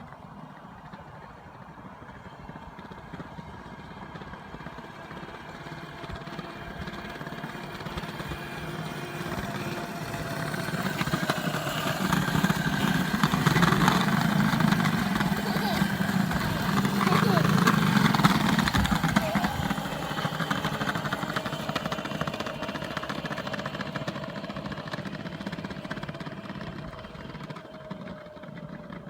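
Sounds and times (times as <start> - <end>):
electric toy motorcycle running: 0.0 - 29.0.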